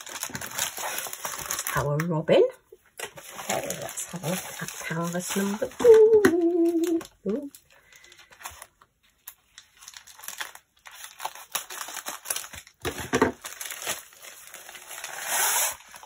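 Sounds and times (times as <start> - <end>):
plastic packaging crinkling: 0.0 - 2.1, 3.0 - 16.0.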